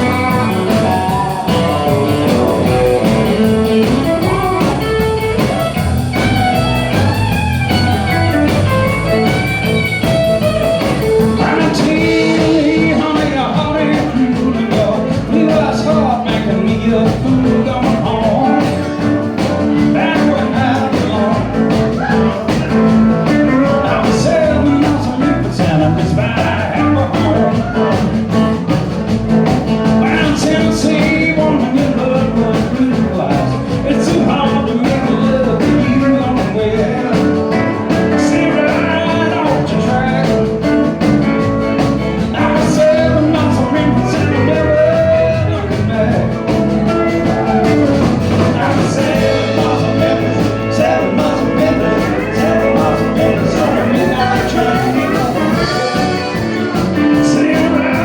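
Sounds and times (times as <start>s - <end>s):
electric guitar: 0.0s - 58.0s
live country band: 0.0s - 58.0s.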